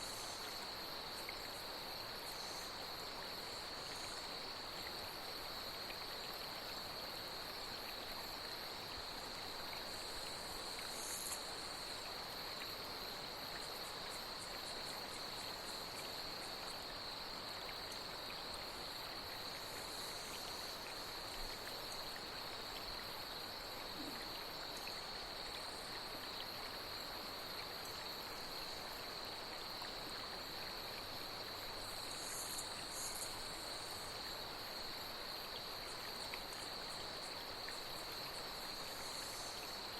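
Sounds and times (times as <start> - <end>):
flowing water hiss: 0.0 - 39.9
night insects chorus: 0.0 - 39.9.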